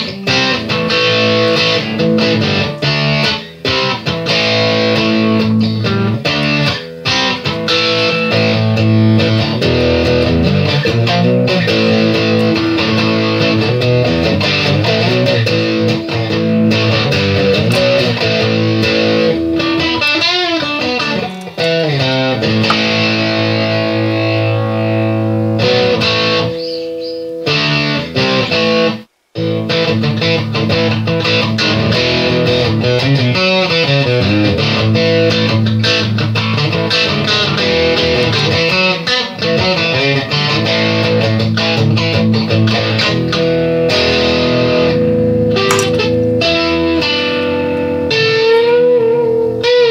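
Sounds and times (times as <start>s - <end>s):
guitar music: 0.0s - 49.9s.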